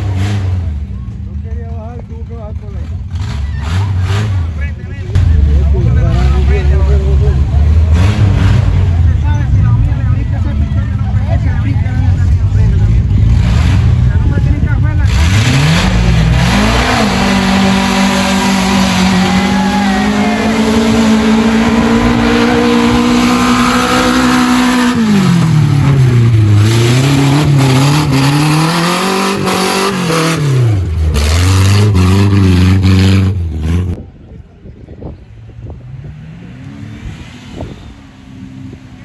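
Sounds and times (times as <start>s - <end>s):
off-road vehicle engine revving: 0.0s - 34.1s, 35.5s - 39.0s.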